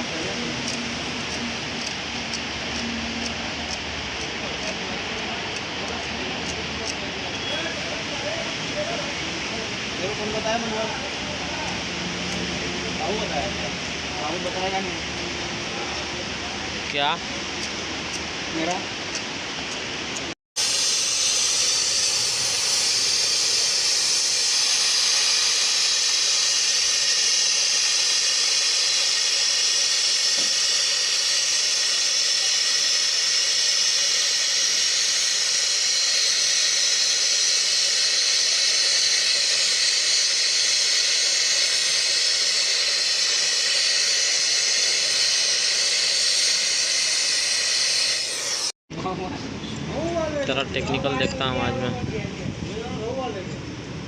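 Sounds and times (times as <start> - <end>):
loud steady hiss: 0.0 - 48.8.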